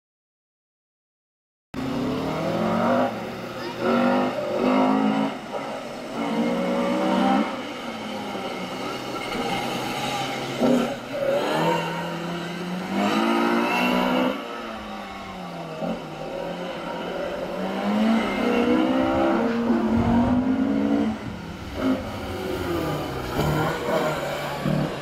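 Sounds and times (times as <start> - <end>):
car engine revving hard: 1.8 - 25.0.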